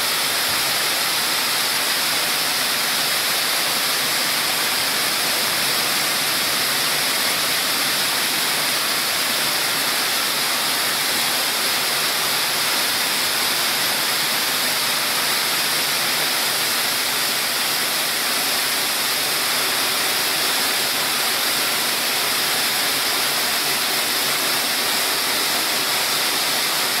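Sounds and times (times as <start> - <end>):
corn kernels rushing through machine: 0.0 - 27.0.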